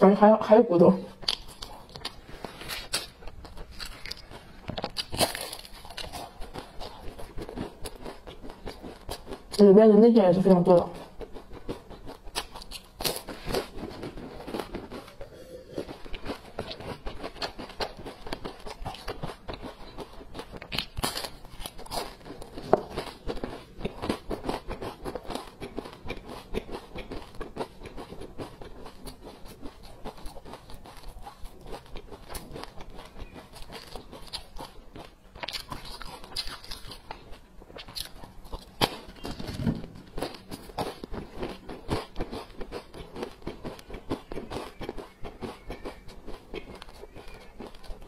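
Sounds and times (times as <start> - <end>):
pastry crunching while chewed: 1.0 - 9.7, 10.4 - 48.0.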